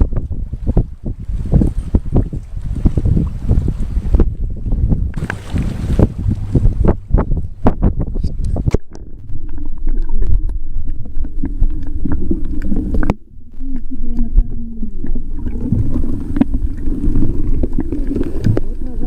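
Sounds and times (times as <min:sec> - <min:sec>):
muffled underwater rumble: 0:00.0 - 0:19.0.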